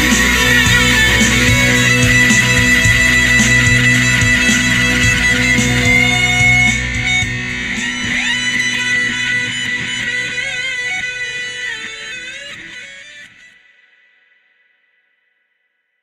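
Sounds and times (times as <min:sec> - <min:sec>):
progressive rock band playing: 0:00.0 - 0:13.3
held guitar notes with bends: 0:00.0 - 0:13.9.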